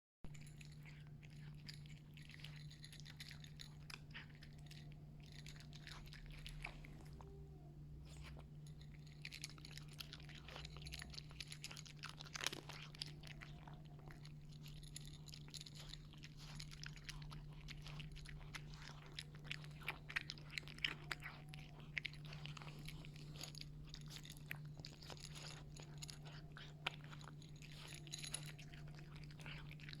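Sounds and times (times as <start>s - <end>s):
cat crunching food: 0.3s - 7.4s, 8.0s - 30.0s
steady low hum: 0.3s - 30.0s.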